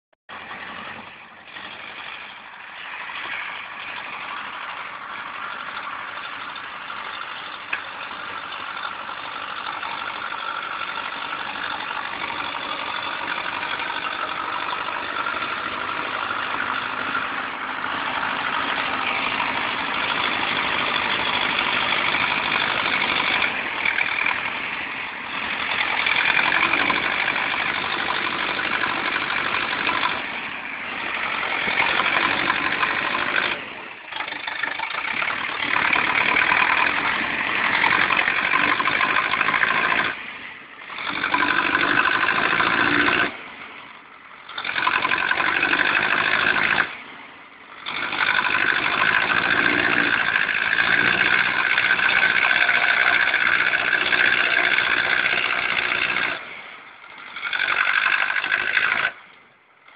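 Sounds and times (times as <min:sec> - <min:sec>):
tractor diesel engine running: 0:00.3 - 0:59.9.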